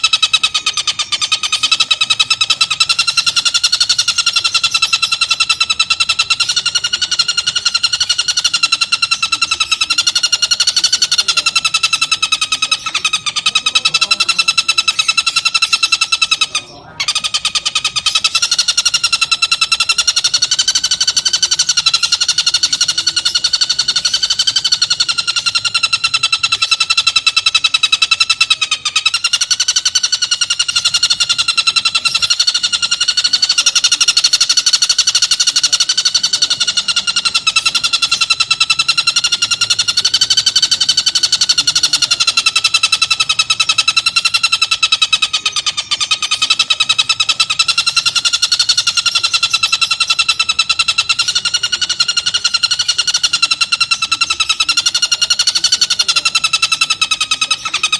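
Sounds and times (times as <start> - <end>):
kingfisher rattling call: 0.0 - 57.9.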